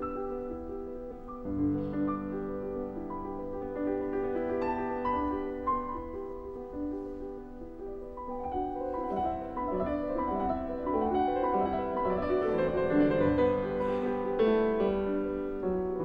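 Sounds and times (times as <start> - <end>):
slow gentle piano piece: 0.0 - 16.0.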